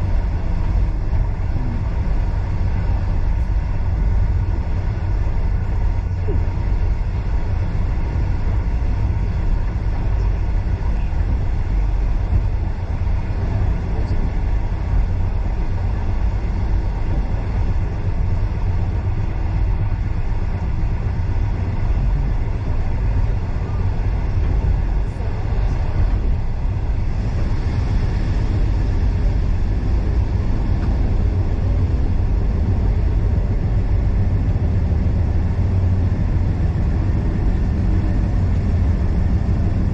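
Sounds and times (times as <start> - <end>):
train carriage rumbling on track: 0.0 - 39.9.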